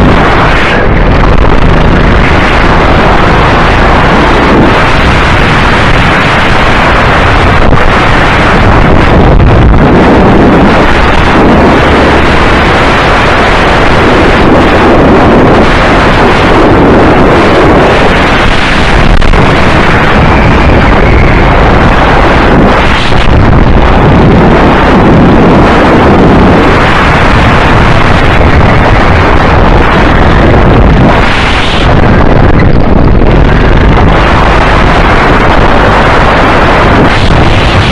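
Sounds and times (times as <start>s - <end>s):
go-kart engine running: 0.0s - 37.9s
wind buffeting microphone: 0.0s - 37.9s.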